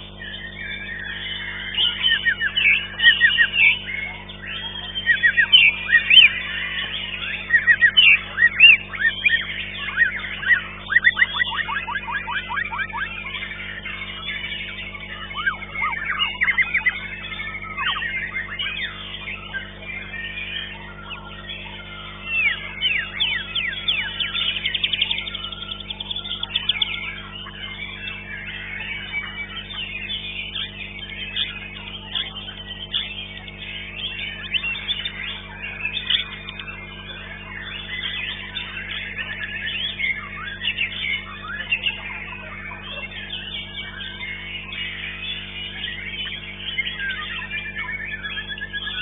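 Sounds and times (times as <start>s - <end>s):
bird singing whistled notes: 0.0s - 49.0s
steady low hum: 0.0s - 49.0s.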